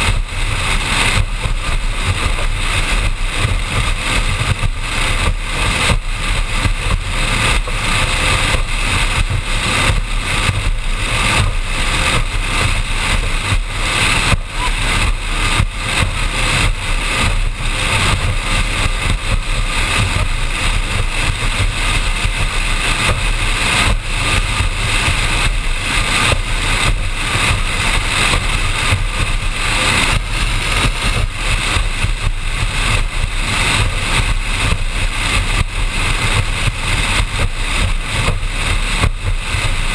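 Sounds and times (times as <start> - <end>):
boat hull jolts: 0.0 - 39.9
powerboat engine drone: 0.0 - 39.9
rush of wind and water: 0.0 - 39.9.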